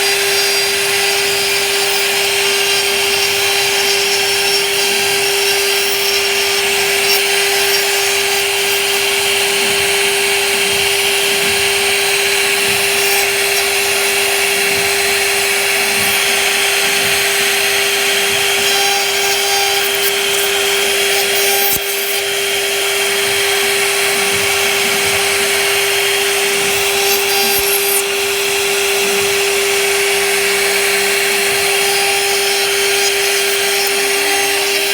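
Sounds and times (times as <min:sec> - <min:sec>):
router spindle whine: 0:00.0 - 0:34.9
wood cutting hiss: 0:00.0 - 0:34.9.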